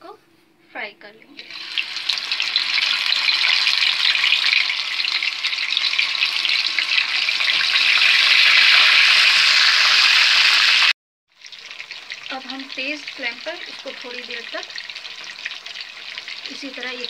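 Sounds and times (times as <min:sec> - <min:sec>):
chicken frying in hot oil: 0:01.4 - 0:17.0.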